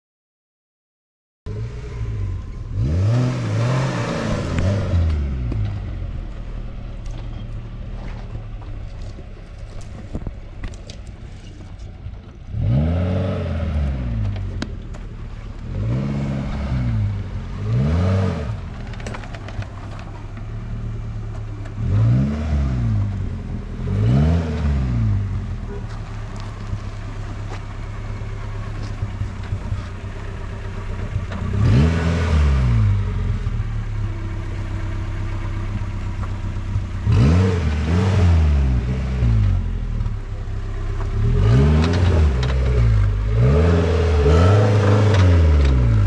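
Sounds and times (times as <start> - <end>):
off-road vehicle engine revving: 1.5 - 46.0.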